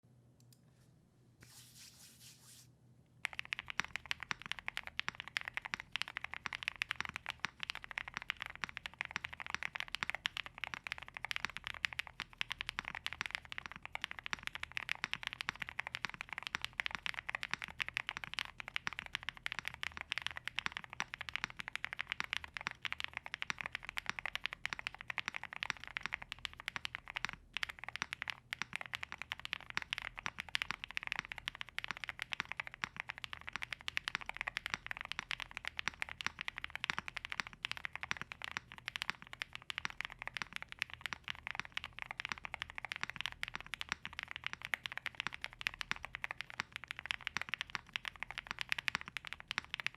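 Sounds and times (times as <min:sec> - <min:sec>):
mechanical keyboard typing: 0:03.2 - 0:49.9.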